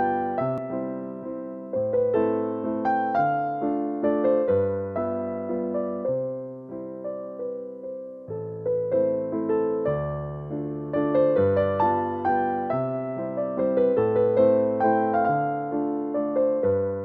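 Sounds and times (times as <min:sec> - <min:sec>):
soft keyboard melody: 0:00.0 - 0:17.0.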